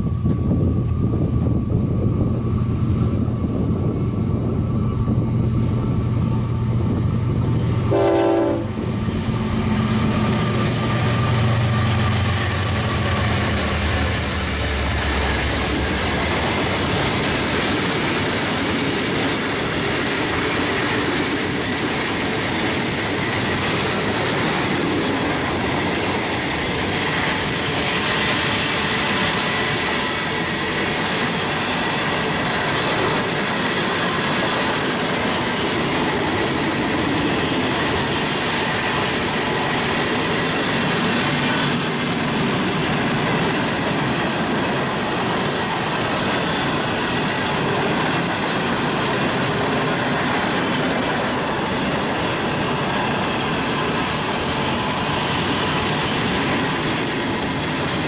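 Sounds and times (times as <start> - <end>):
diesel locomotive engine drone: 0.0 - 58.0
freight cars rumbling over rails: 0.0 - 58.0.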